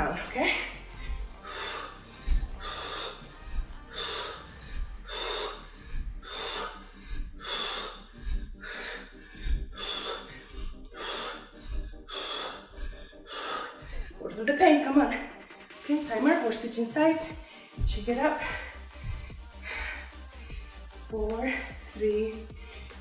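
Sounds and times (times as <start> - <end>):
woman breathing hard: 0.4 - 14.2, 17.3 - 23.0.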